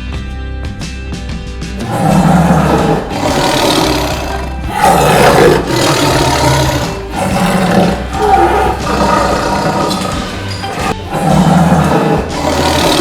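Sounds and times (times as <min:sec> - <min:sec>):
background music: 0:00.0 - 0:13.0
tiger roaring: 0:01.8 - 0:13.0.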